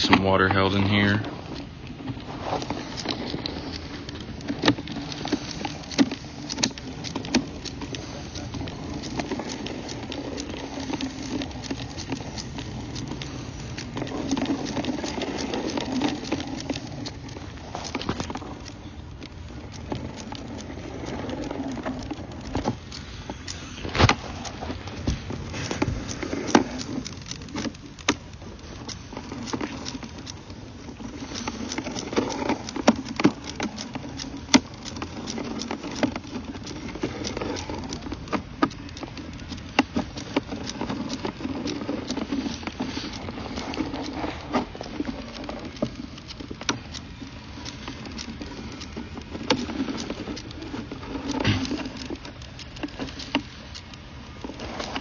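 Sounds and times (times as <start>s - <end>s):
steady rumble: 0.0s - 55.0s.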